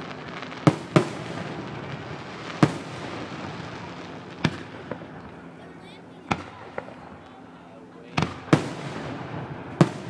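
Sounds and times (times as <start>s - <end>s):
fireworks bangs with echo: 0.0s - 5.6s, 6.2s - 7.5s, 8.1s - 10.0s.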